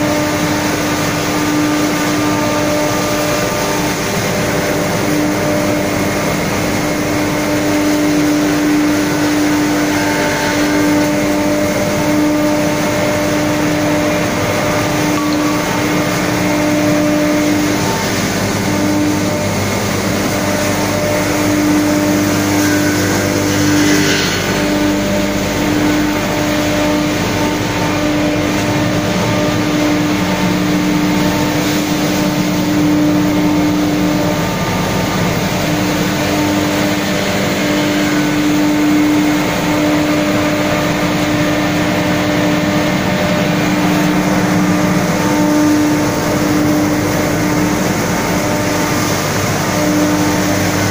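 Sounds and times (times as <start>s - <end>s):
grinding machine drone: 0.0s - 50.9s.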